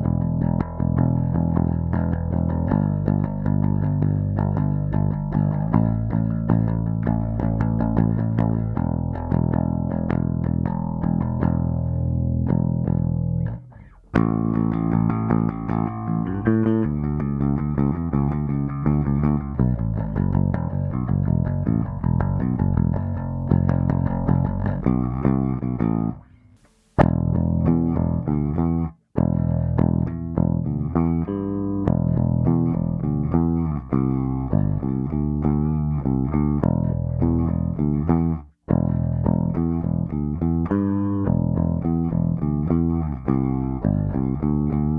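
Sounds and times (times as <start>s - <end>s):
electric bass plucked notes: 0.0s - 44.9s.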